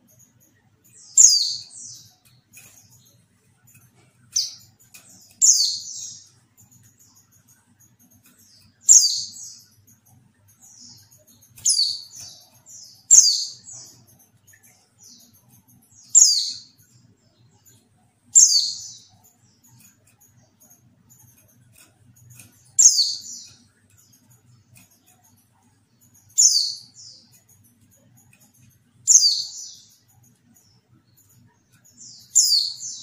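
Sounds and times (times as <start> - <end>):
soft bird chirps: 0.0 - 33.0.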